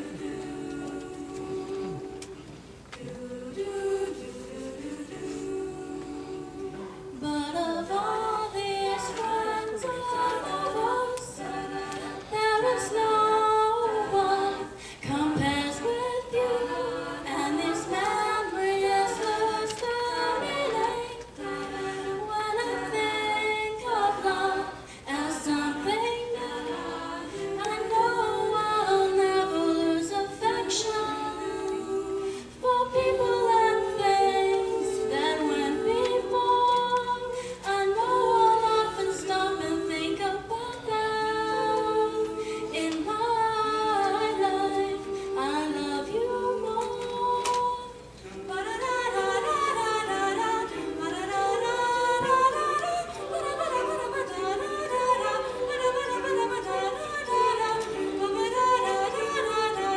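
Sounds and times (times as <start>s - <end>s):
choir of women singing: 0.0s - 59.9s.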